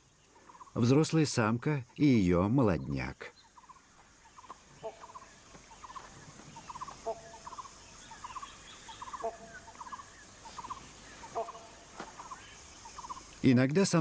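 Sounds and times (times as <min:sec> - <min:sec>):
high pulsing insect buzz: 0:00.0 - 0:13.7.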